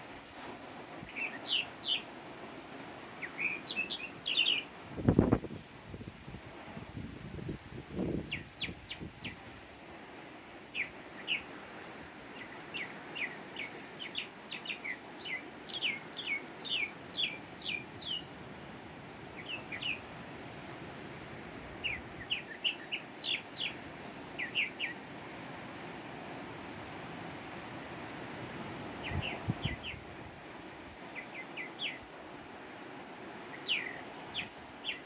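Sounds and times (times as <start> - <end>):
distant surf: 0.0 - 35.0.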